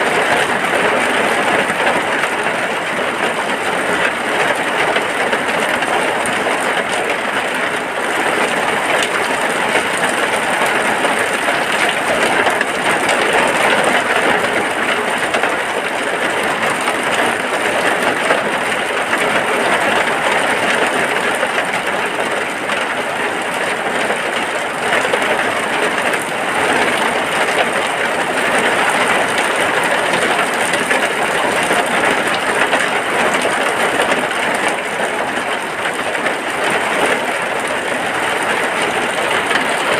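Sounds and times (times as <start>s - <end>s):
rain falling on a hut: 0.0s - 39.9s.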